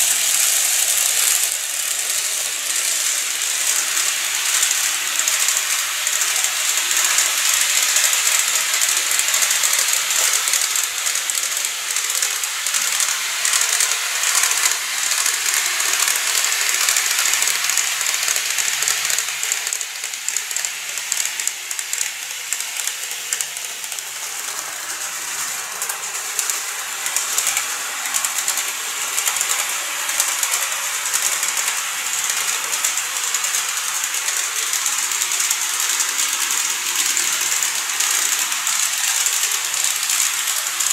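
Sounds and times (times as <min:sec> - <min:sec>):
model train wheels hissing: 0:00.0 - 0:40.9.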